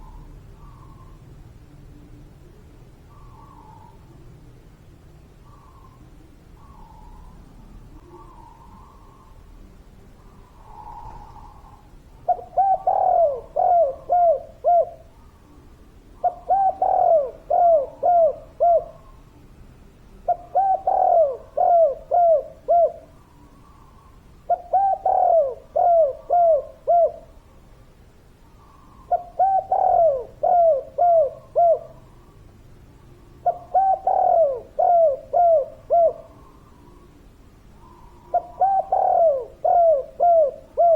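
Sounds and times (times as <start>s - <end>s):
dove cooing: 0.0s - 1.4s, 2.0s - 4.3s, 5.4s - 19.3s, 20.1s - 27.6s, 28.6s - 32.5s, 33.1s - 40.9s.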